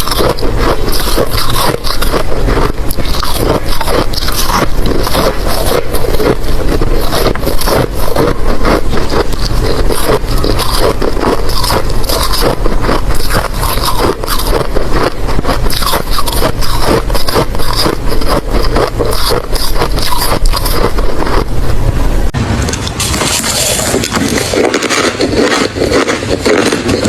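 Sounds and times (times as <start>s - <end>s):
ice crunching between teeth: 0.0s - 21.6s, 22.8s - 27.0s.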